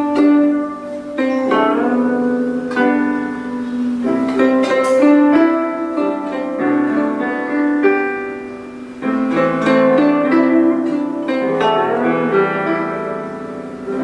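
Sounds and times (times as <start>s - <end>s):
plucked zither melody: 0.0s - 14.0s.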